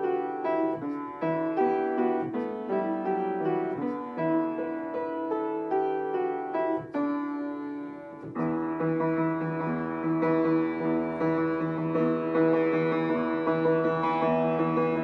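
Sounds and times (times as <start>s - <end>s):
solo upright piano: 0.0s - 15.0s.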